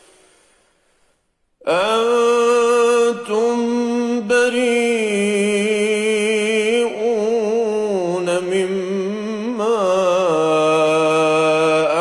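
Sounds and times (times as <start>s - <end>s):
man chanting with vibrato: 1.6s - 12.0s.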